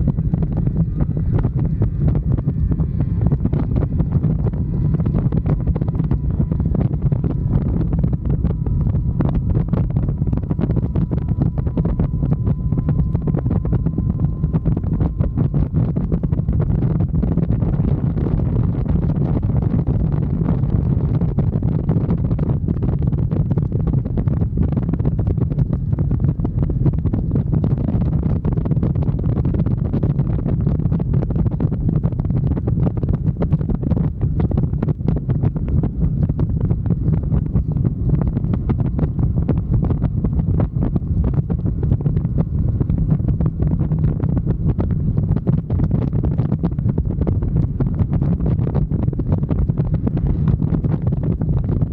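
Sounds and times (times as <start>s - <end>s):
motorcycle running: 0.0s - 51.9s
wind buffeting microphone: 0.0s - 51.9s.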